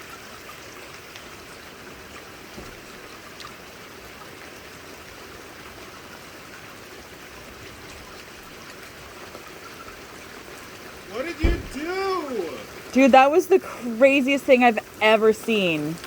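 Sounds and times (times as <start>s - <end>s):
pouring rain: 0.0s - 16.0s
running water: 0.0s - 16.0s.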